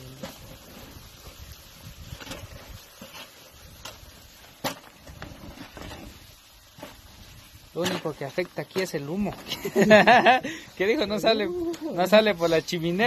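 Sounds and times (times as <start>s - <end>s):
pork frying in lard: 0.0s - 13.0s.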